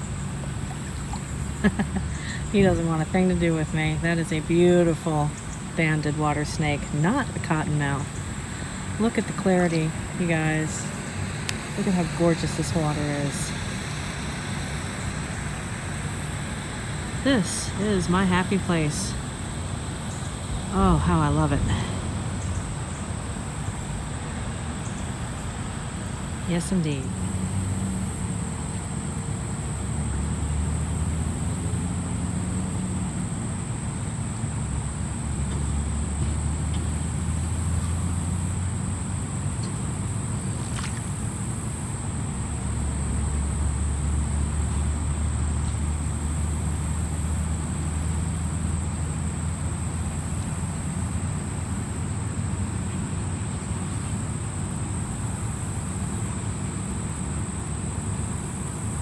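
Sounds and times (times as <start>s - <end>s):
insects trilling: 0.0s - 59.0s
insect high buzz: 8.0s - 21.0s, 21.7s - 59.0s.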